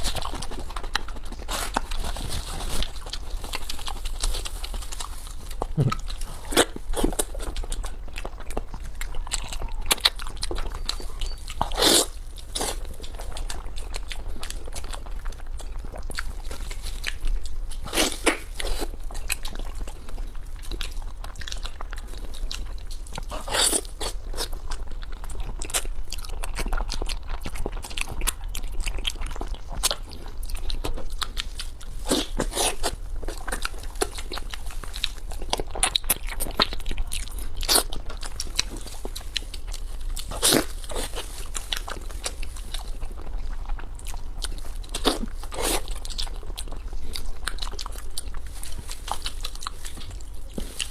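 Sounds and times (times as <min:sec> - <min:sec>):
person chewing crunchy seafood: 0:00.0 - 0:50.9.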